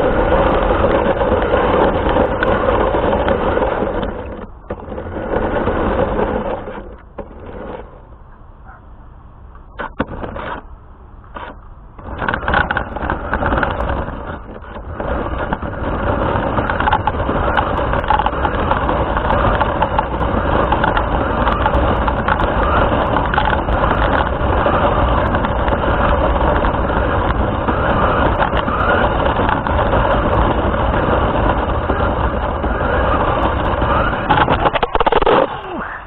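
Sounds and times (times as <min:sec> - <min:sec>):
rc car motor and tyre noise: 0:00.0 - 0:36.0.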